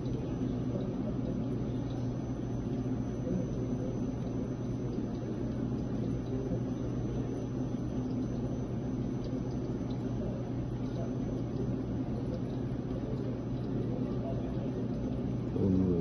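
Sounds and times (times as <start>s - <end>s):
cafe equipment room noise: 0.0s - 16.0s
low mechanical hum: 0.0s - 16.0s.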